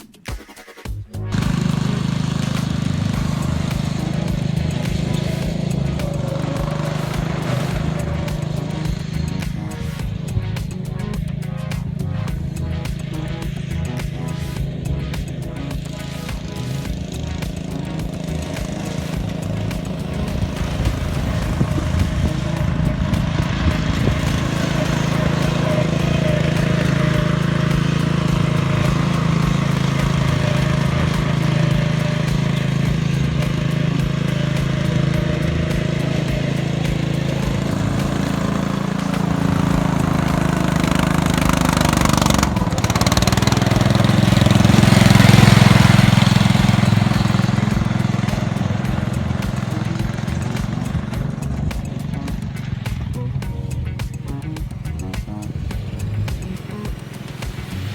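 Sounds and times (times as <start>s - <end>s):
lawn mower engine running: 1.0s - 57.9s.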